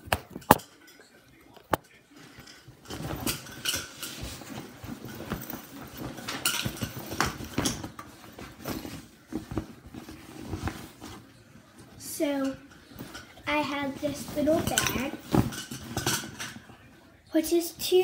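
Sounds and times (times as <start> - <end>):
fabric bag rustling: 2.2 - 16.9.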